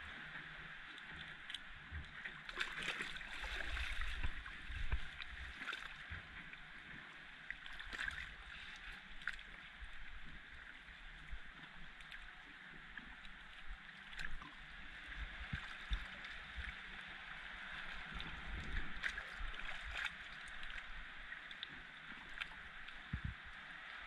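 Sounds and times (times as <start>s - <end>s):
seawater lapping against rocks: 0.0s - 24.0s
small water splashes: 0.7s - 24.0s.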